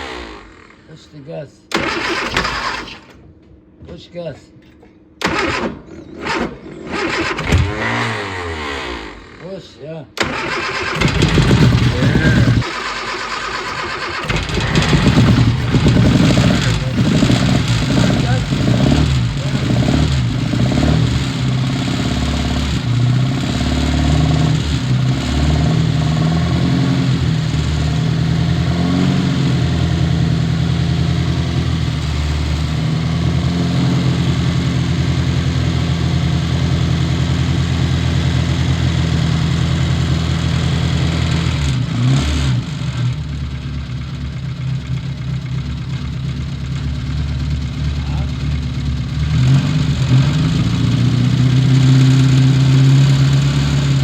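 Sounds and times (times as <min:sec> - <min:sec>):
car engine at fast idle: 0:10.2 - 0:54.0.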